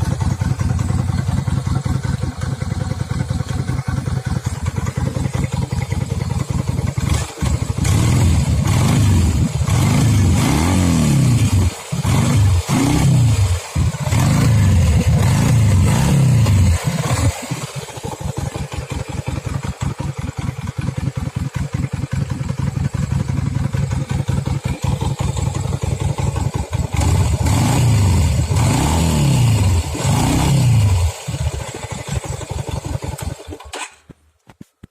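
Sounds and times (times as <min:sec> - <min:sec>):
motorcycle engine revving and idling: 0:00.0 - 0:34.4.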